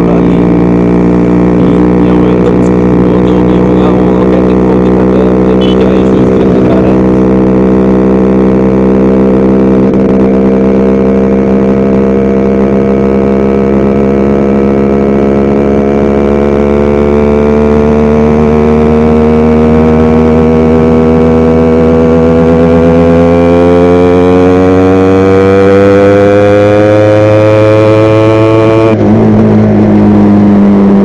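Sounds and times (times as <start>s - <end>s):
two-stroke motorcycle engine running: 0.0s - 31.0s.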